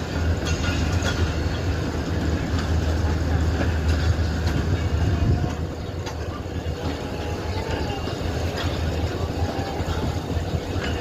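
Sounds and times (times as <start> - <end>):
train rumbling: 0.0 - 11.0
train wheels clicking: 0.0 - 11.0.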